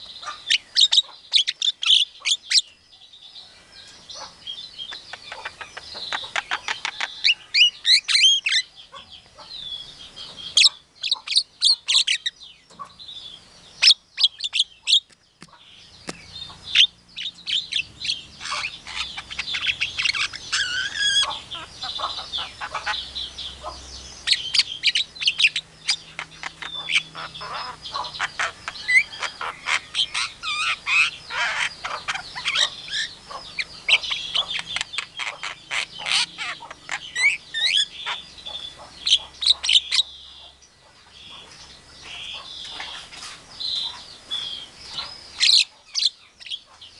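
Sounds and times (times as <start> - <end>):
myna bird singing: 0.0 - 46.9.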